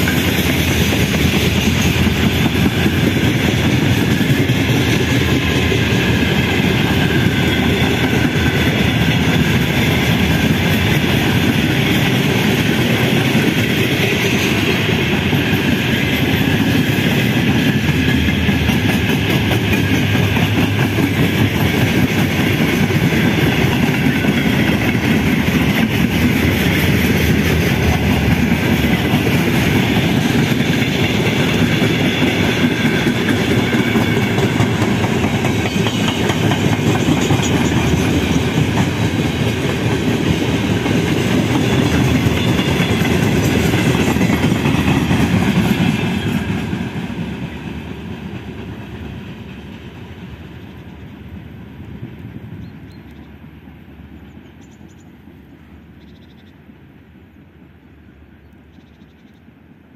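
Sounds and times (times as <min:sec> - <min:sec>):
train wheels rumbling over rail joints: 0:00.0 - 0:53.0.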